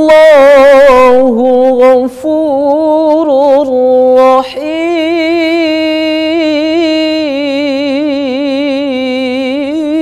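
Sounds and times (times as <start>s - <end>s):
man chanting melodic recitation: 0.0s - 10.0s.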